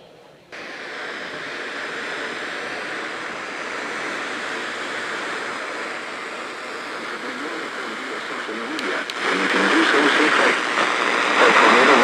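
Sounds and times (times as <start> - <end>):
radio static hiss: 0.5 - 12.0.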